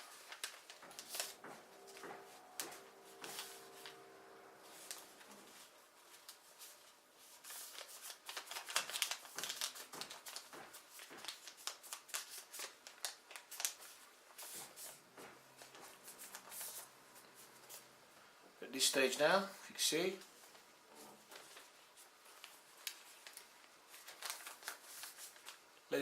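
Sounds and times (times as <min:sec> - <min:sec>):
paper folding and rustling: 0:00.0 - 0:17.9, 0:20.3 - 0:25.8.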